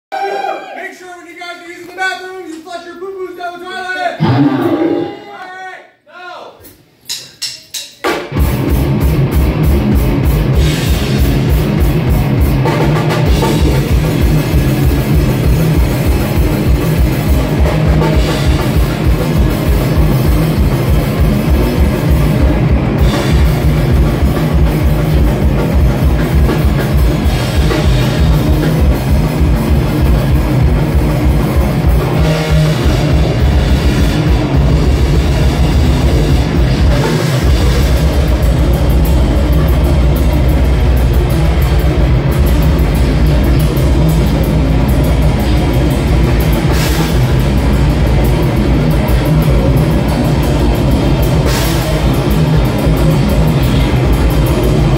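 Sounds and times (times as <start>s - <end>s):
pounding drum kit: 4.1s - 5.5s, 6.6s - 54.9s
punk band playing loud: 4.2s - 5.3s, 8.0s - 54.9s
distorted electric guitars: 4.2s - 5.4s, 8.0s - 54.9s.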